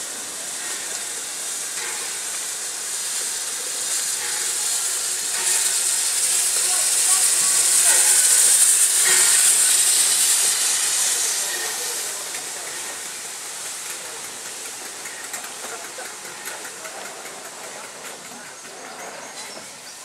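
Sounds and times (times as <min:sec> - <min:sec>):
steam locomotive steam hiss: 0:00.0 - 0:20.0.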